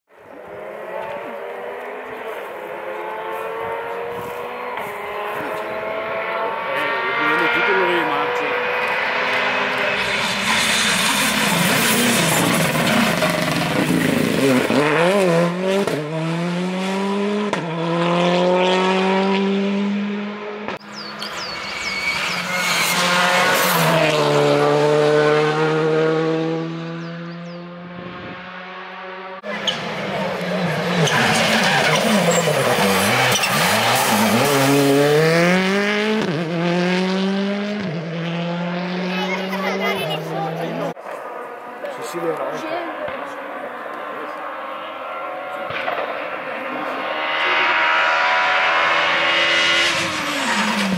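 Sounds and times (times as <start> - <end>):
rally car engine at full throttle: 0.1 - 50.9.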